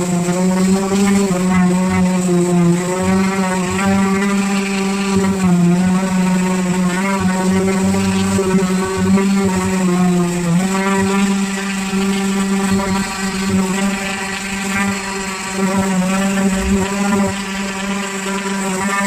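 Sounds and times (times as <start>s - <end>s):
electric power sander: 0.0s - 19.0s.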